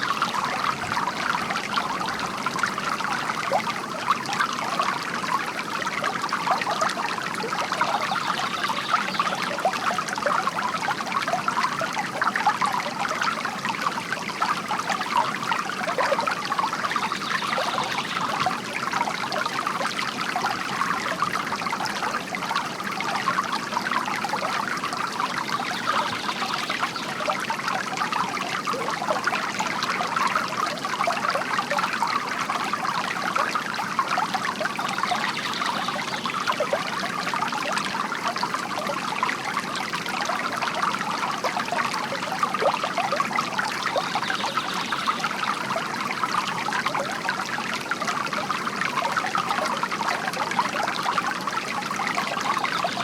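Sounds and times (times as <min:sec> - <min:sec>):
water trickling from a fountain: 0:00.0 - 0:53.0.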